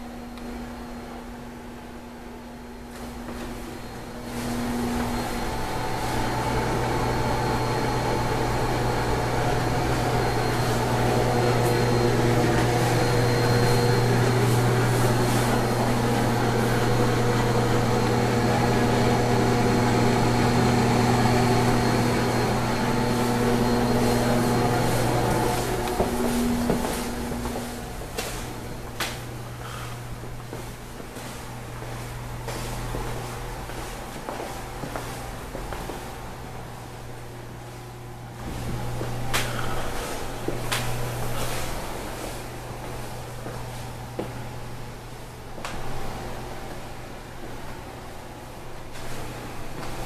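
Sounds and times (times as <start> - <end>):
ventilation fan humming: 0.0 - 50.0.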